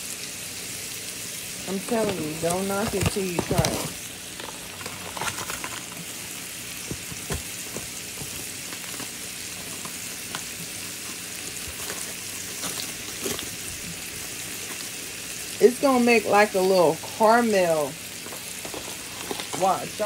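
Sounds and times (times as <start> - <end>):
green beans sizzling in a pan: 0.0 - 20.0.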